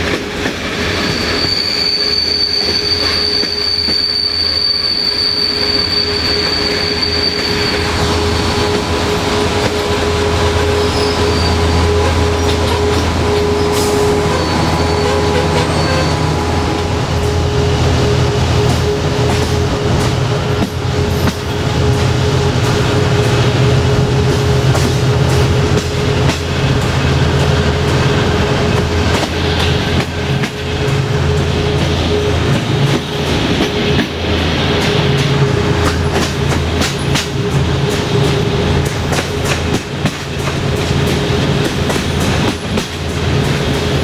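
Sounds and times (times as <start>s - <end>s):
train engine drone: 0.0s - 44.0s.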